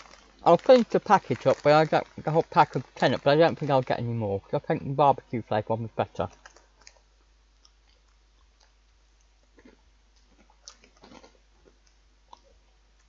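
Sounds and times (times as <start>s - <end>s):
chewing crunchy snack: 0.0s - 4.0s, 6.3s - 13.0s.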